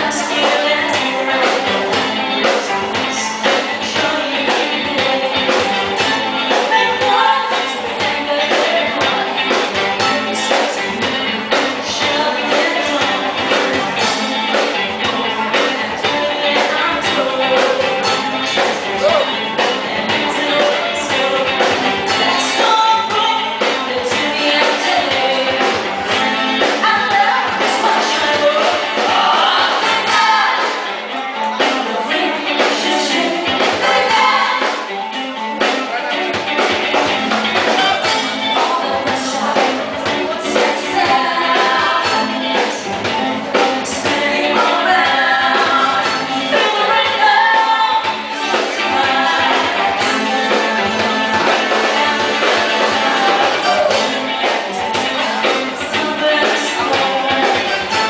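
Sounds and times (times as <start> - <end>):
woman singing into microphone: 0.0 - 35.0, 37.8 - 58.0
drums and percussion: 0.0 - 58.0.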